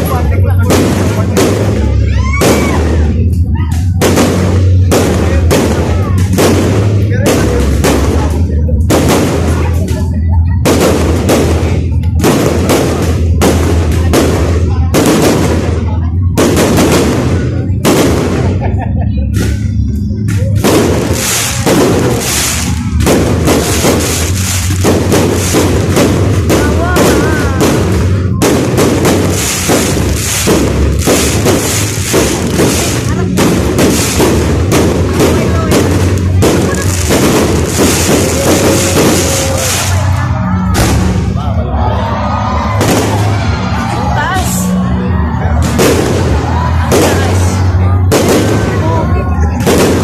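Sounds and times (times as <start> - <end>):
fireworks bangs: 0.0 - 50.0
fireworks rumble: 0.0 - 50.0
steady low drone: 0.0 - 50.0.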